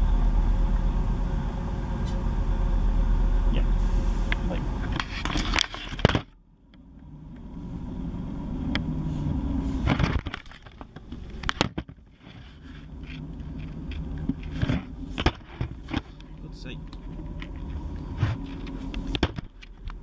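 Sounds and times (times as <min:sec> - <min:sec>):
train engine rumble: 0:00.0 - 0:20.0.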